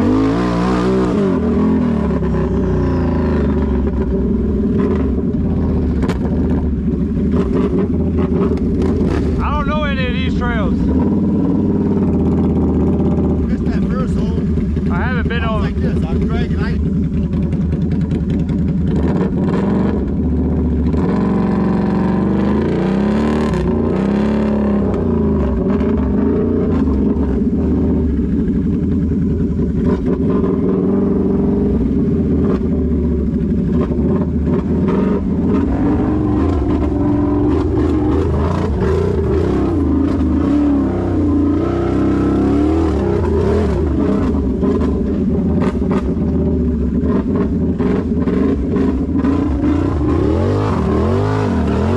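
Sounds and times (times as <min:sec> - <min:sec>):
atv engine revving: 0:00.0 - 0:51.9.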